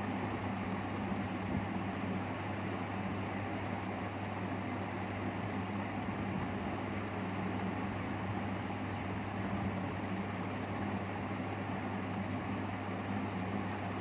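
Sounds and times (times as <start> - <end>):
electric fan motor whirring: 0.0 - 14.0.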